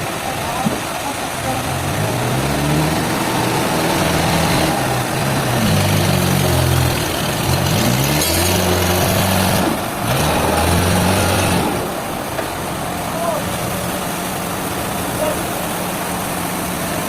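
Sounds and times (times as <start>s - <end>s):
heavy machine engine revving: 0.0s - 17.0s.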